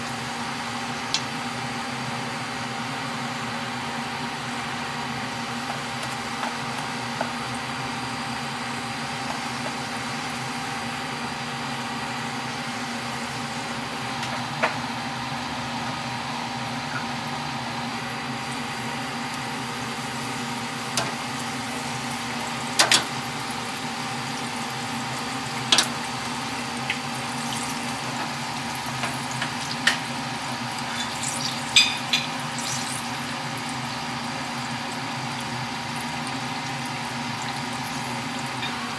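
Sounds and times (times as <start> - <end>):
cookies sizzling in deep fryer oil: 0.0 - 38.9.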